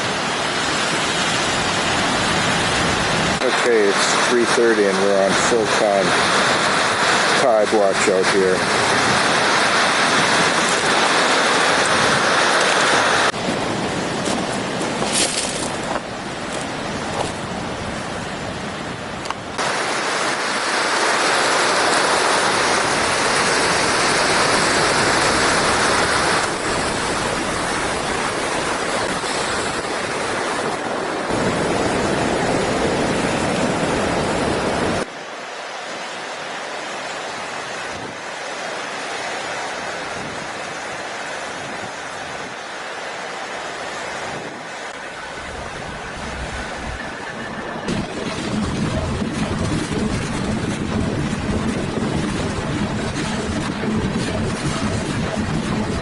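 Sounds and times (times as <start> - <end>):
wind on microphone: 0.0 - 35.1, 37.4 - 38.4, 39.5 - 42.7, 44.0 - 56.0
ocean waves washing up beach: 0.0 - 56.0.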